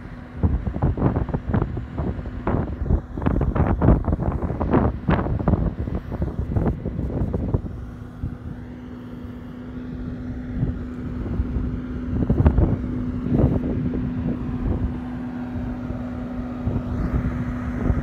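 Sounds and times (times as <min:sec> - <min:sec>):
diesel engine running: 0:00.0 - 0:18.0
hydraulics steady tone: 0:00.0 - 0:18.0
wind buffeting microphone: 0:00.0 - 0:18.0.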